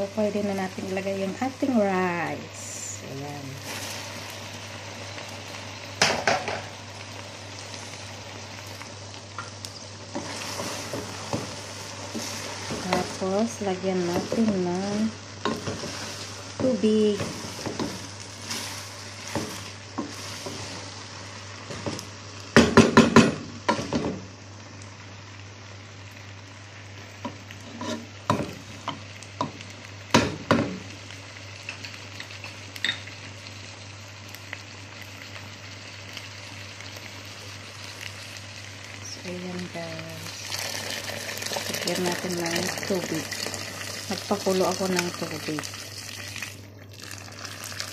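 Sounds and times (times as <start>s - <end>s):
rice and chicken sizzling in a pot: 0.0s - 47.9s.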